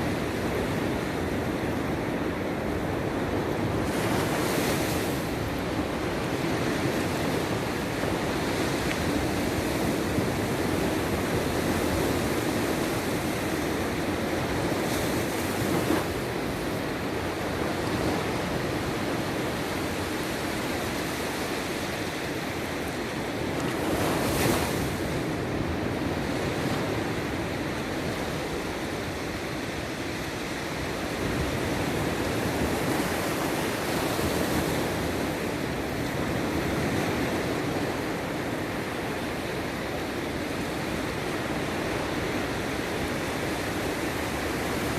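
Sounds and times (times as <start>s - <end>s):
waves breaking and washing: 0.0s - 44.9s.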